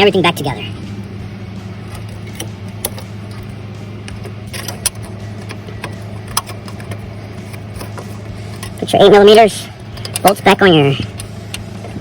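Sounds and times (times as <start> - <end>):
steady low hum: 0.0 - 12.0
metal parts clicking: 1.9 - 11.7.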